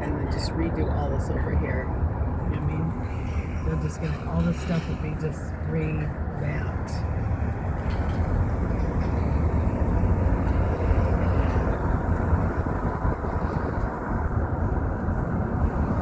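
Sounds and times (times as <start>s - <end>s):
car cabin road and engine noise: 0.0s - 16.0s.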